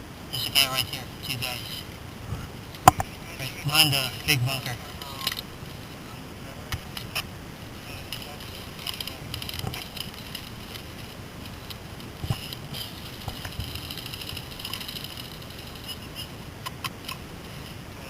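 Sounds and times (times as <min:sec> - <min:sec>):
background rustle: 0:00.3 - 0:18.0.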